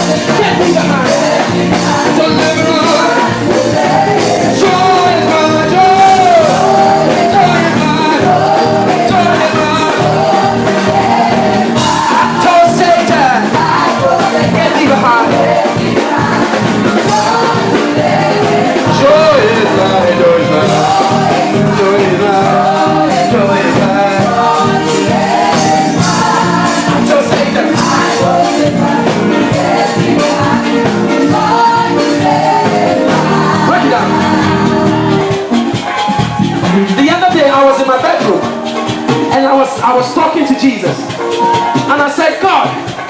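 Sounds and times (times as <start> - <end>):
person singing: 0.0 - 35.7
band accompaniment: 0.0 - 43.0.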